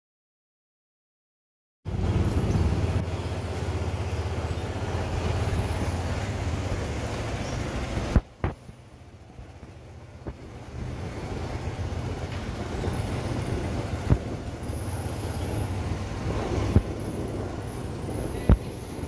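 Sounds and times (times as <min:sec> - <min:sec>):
road and wind noise: 0:01.9 - 0:19.0
small motorcycle engine hum: 0:01.9 - 0:19.0.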